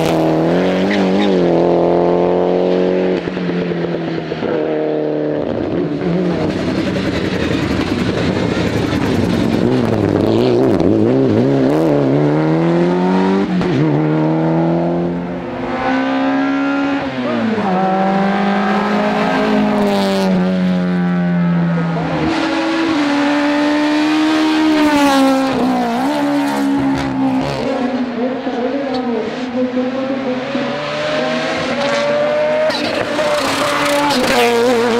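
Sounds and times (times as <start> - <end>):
race car engines revving: 0.0 - 34.9.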